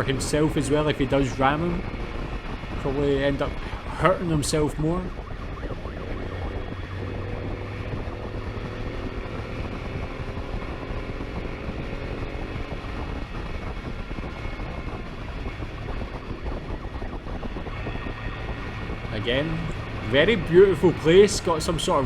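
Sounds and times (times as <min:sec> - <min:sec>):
motorcycle engine at speed: 0:00.0 - 0:22.0
wind rush: 0:00.0 - 0:22.0.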